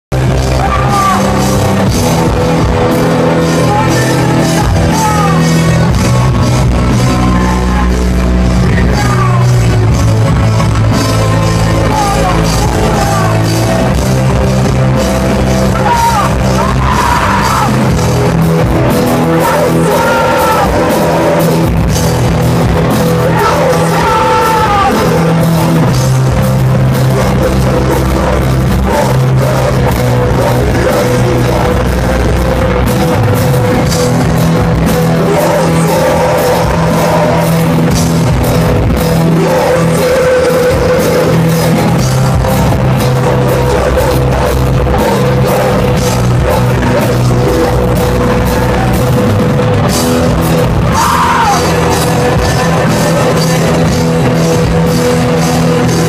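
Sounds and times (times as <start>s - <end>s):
vocals sung and yelled: 0.0s - 56.0s
metal band playing live: 0.1s - 56.0s.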